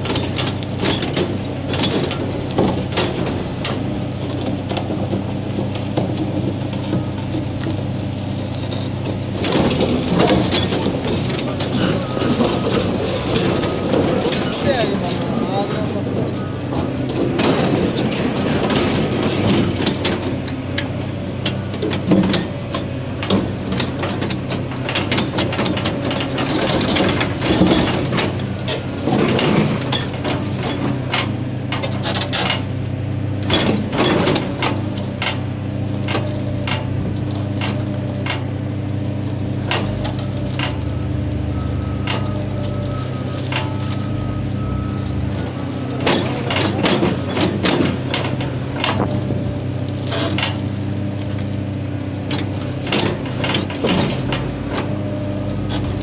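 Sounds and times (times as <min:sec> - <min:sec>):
excavator running: 0:00.0 - 0:56.0.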